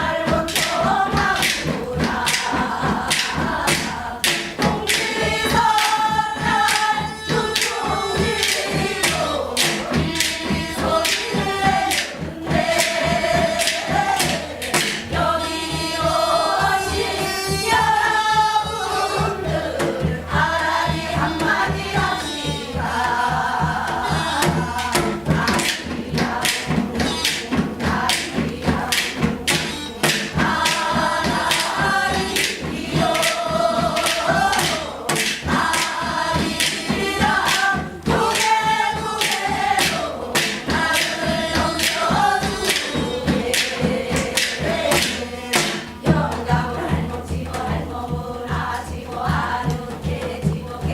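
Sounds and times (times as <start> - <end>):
group singing folk song: 0.0 - 50.9
sharp percussion strokes: 0.0 - 50.9.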